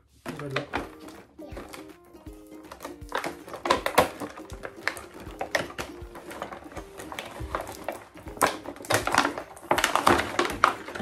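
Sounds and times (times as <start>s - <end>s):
plastic packaging crinkling: 0.3s - 11.0s.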